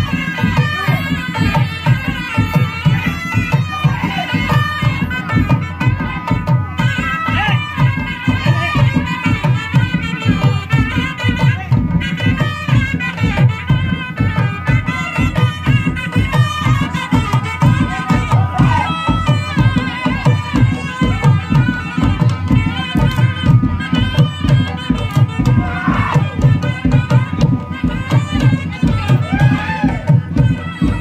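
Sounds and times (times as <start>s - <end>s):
fast drum beat: 0.0s - 31.0s.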